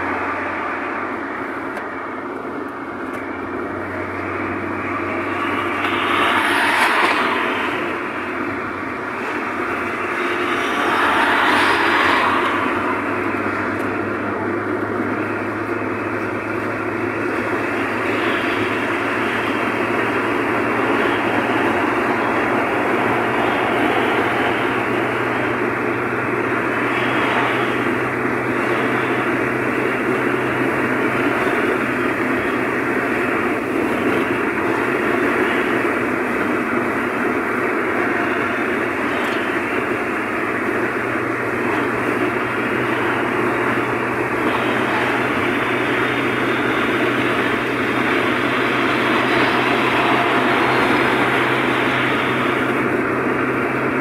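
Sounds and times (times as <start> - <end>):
low steady drone: 0.0 - 54.0
road and tyre noise: 0.0 - 54.0.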